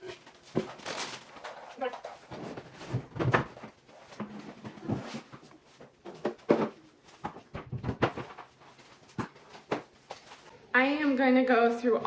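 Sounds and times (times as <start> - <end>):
packages knocking and clattering: 0.0 - 10.5.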